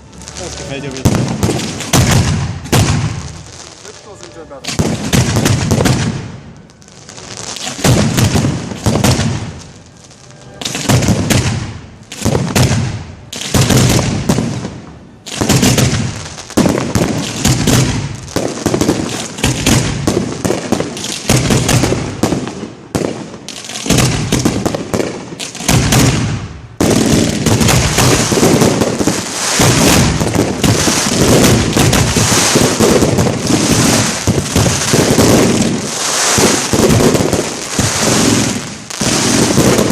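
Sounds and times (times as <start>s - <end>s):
fireworks crackling barrage: 0.0s - 39.9s
fireworks launching and bursting: 0.0s - 39.9s.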